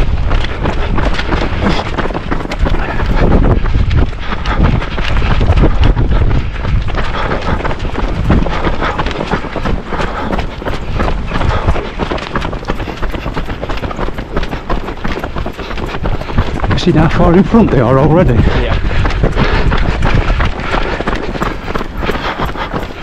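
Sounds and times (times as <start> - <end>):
running footsteps on tarmac: 0.0 - 23.0
wind rumble on microphone: 0.0 - 23.0.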